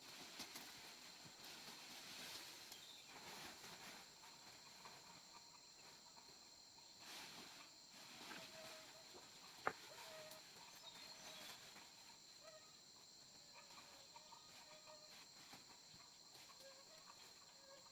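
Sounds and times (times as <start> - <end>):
insects chorus: 0.0 - 17.9.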